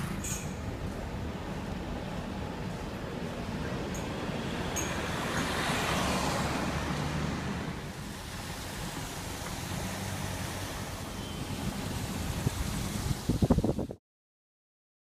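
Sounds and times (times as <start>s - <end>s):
car interior road rumble: 0.0s - 13.8s.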